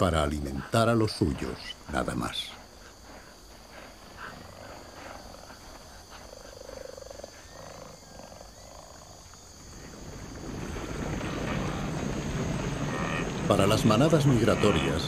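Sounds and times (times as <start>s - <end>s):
high insect-like hum: 0.0s - 15.0s.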